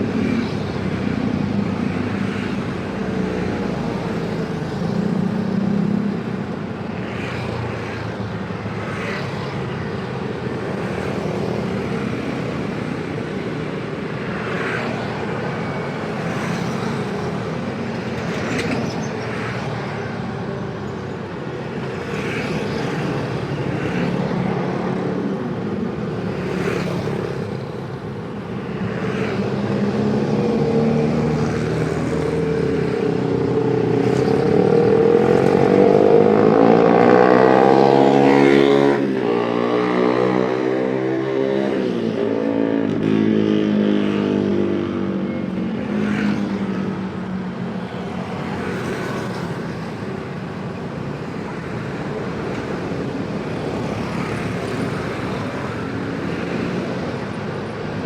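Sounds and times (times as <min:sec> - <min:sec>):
road traffic engines: 0:00.0 - 0:58.0.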